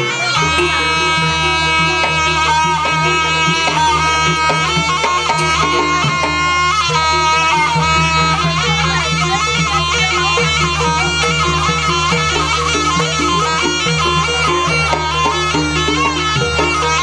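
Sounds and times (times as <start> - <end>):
short struck notes: 0.0 - 17.0
shrill double-reed melody: 0.0 - 17.0.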